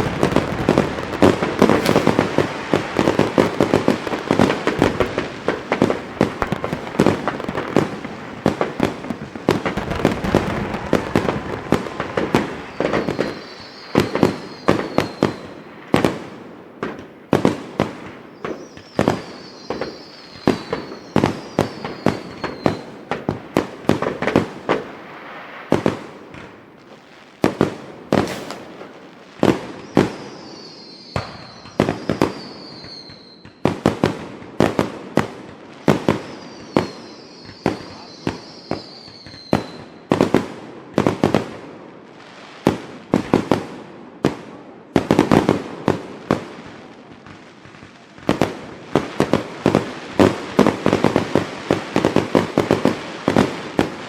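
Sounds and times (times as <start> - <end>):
falling whistling fireworks: 0.0 - 54.0
fireworks bangs and pops: 0.0 - 54.0.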